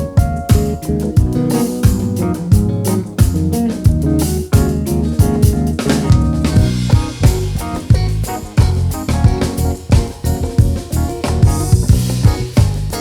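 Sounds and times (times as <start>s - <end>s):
drum kit groove: 0.0s - 13.0s
electric bass: 0.0s - 13.0s
electric guitar: 0.0s - 13.0s.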